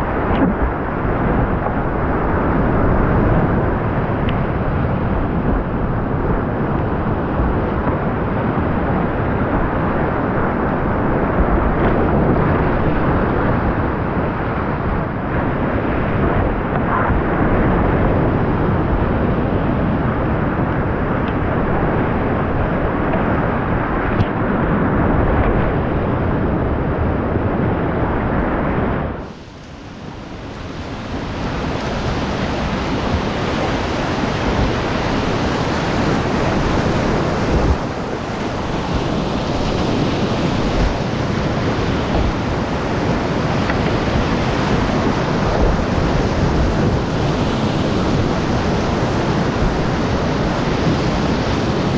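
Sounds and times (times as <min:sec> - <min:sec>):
whitewater rapids rushing: 0:00.0 - 0:51.9.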